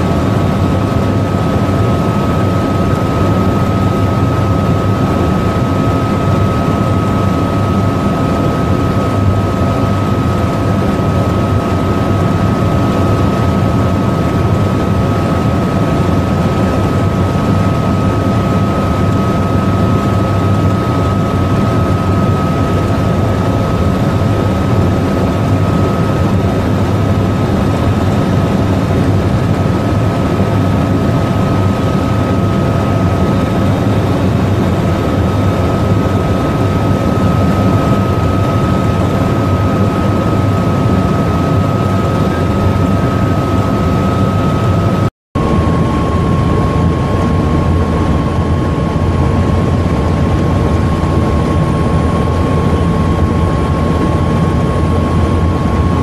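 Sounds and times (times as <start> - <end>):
helicopter rotor and engine noise: 0.0 - 56.0
high steady whine: 0.0 - 56.0.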